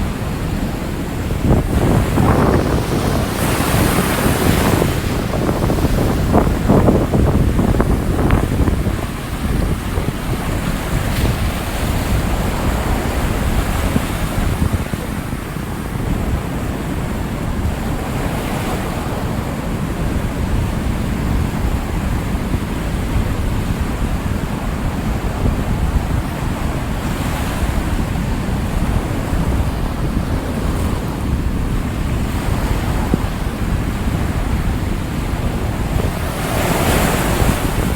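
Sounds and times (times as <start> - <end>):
waves breaking and rushing: 0.0 - 37.9
wind buffeting microphone: 0.0 - 37.9.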